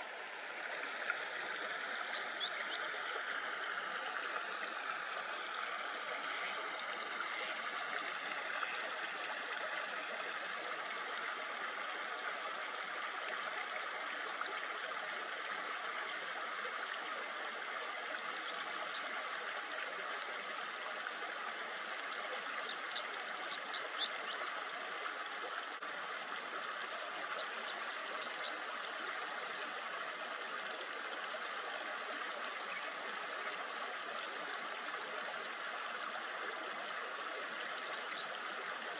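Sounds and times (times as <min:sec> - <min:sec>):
shallow river babbling: 0:00.0 - 0:38.9.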